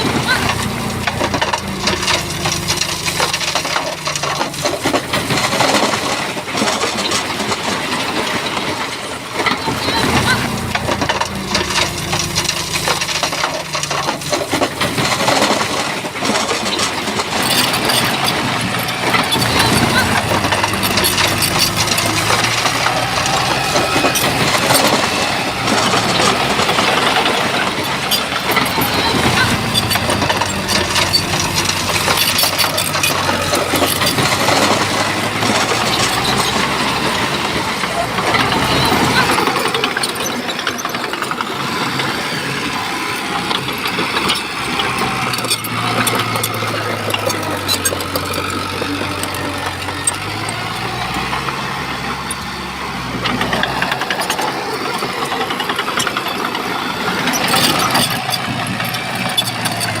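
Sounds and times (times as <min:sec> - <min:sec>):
bulldozer diesel engine working: 0:00.0 - 1:00.0
tracks and stones clattering: 0:00.0 - 1:00.0.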